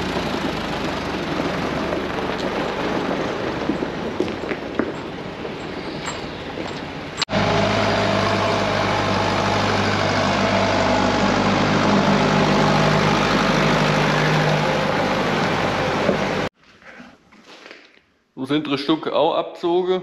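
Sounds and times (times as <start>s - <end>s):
tractor diesel engine idling: 0.0s - 16.5s.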